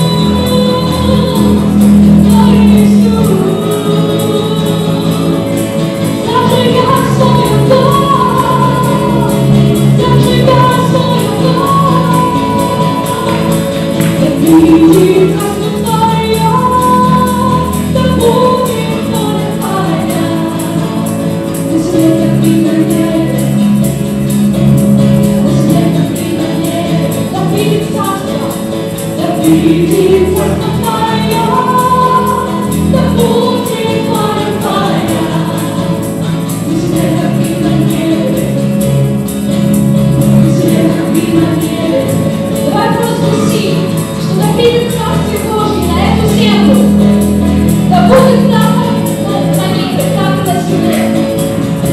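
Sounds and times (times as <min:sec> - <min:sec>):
people singing together: 0:00.0 - 0:24.4, 0:25.4 - 0:51.9
acoustic guitar: 0:00.0 - 0:51.9
electric bass: 0:00.0 - 0:51.9
keyboard: 0:00.0 - 0:51.9.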